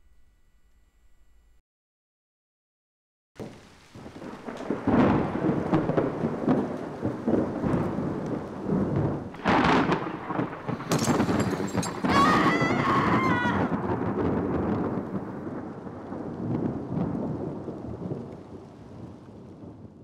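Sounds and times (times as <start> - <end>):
rain-like hiss: 3.4 - 20.0
rolling thunder: 3.4 - 20.0.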